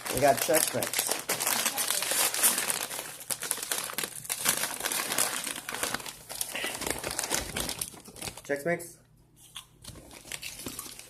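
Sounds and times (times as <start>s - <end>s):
snack bag crinkling: 0.0s - 8.6s, 9.8s - 11.0s.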